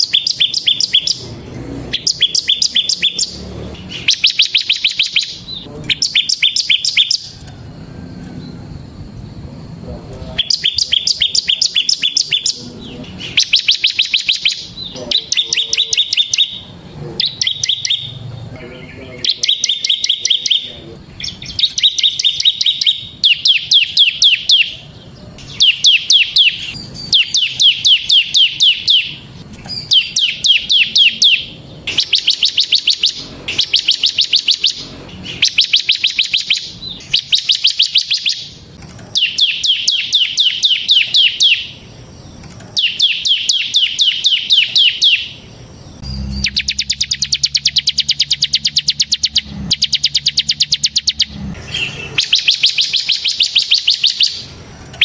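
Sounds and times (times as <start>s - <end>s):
bird singing fast high notes: 0.0s - 7.4s, 10.4s - 24.8s, 25.4s - 38.6s, 39.2s - 42.1s, 42.8s - 55.0s.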